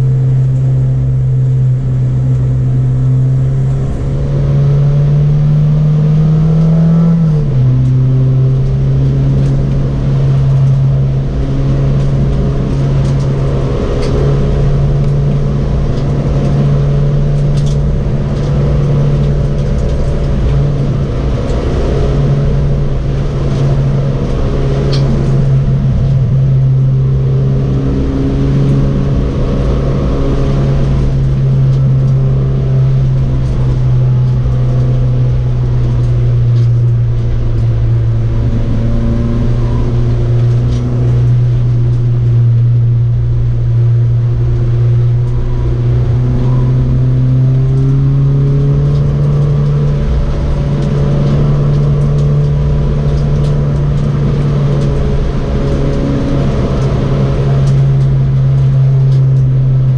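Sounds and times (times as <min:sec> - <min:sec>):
car engine pulling hard: 0:00.0 - 0:59.9.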